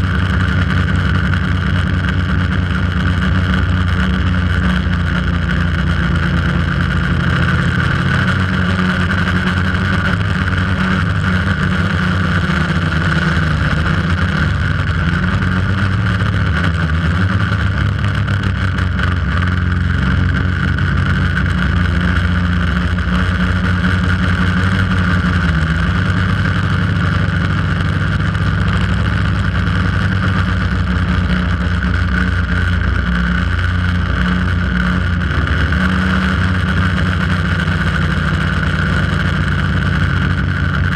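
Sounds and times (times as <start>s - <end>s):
drone propellers buzzing: 0.0s - 40.9s.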